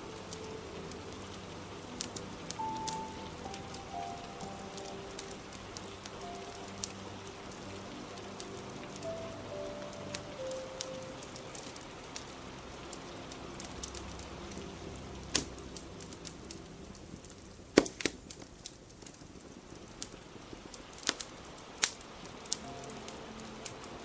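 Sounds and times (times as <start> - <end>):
rain hiss: 0.0 - 24.0
wood fire crackling: 0.0 - 24.0.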